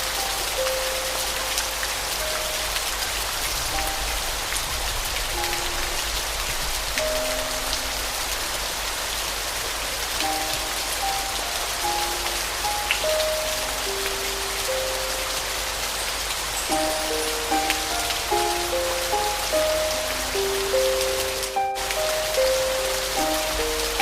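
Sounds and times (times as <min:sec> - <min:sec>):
soft piano notes: 0:00.0 - 0:08.8, 0:10.0 - 0:24.0
steady rain falling: 0:00.0 - 0:24.0.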